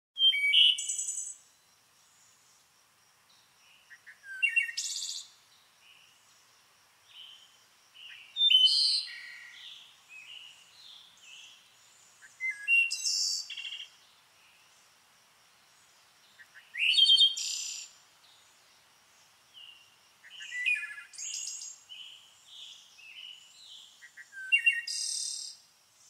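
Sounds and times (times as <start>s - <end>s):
bird song phrases: 0.2s - 2.6s, 3.3s - 6.5s, 7.1s - 14.8s, 15.6s - 25.6s
faint bird chirps: 0.2s - 2.6s, 3.3s - 6.5s, 7.1s - 14.8s, 15.7s - 25.6s.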